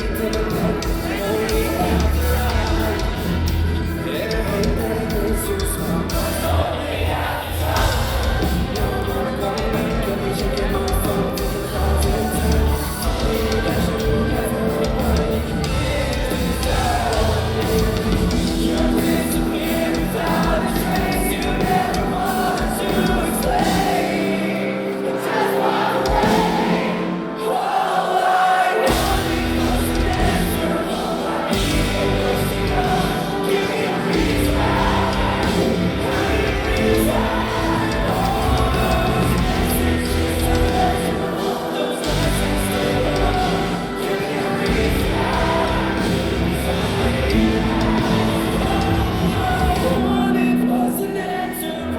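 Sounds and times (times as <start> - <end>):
hard rock band playing live: 0.0 - 51.9
person singing: 0.0 - 51.9.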